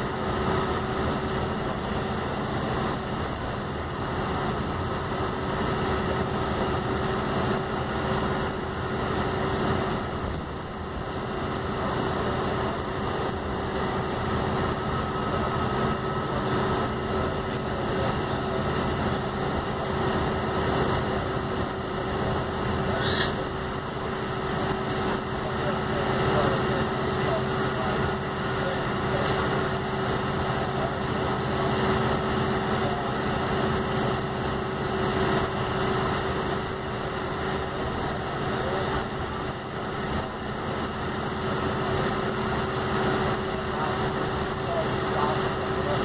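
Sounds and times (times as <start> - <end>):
bus engine drone: 0.0 - 46.0.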